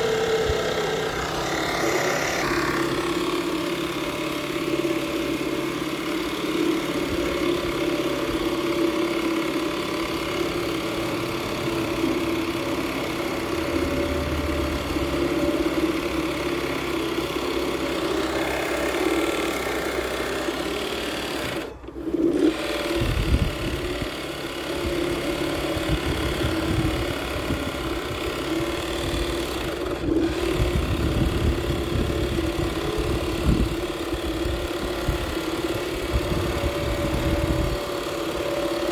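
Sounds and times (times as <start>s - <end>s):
pillar drill motor hum: 0.0s - 38.9s.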